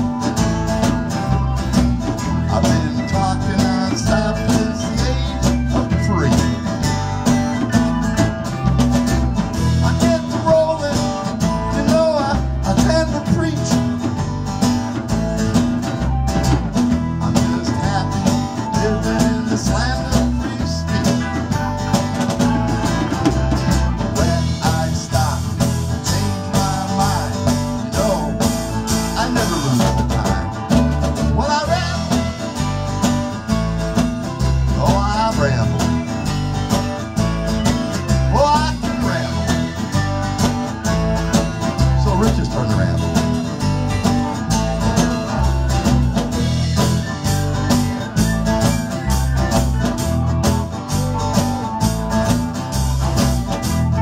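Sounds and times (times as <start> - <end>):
acoustic and electric guitars: 0.0 - 54.0
drum kit steady beat: 0.0 - 54.0.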